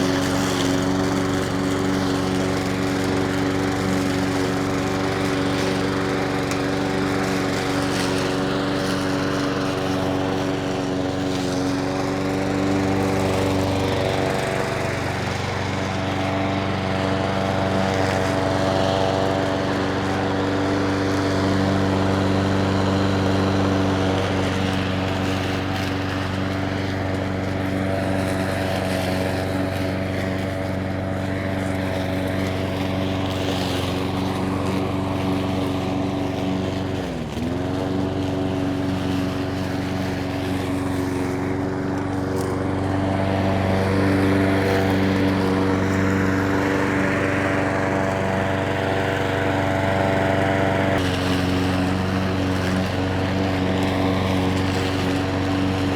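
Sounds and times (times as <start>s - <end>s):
lawn mower engine running: 0.0s - 55.9s.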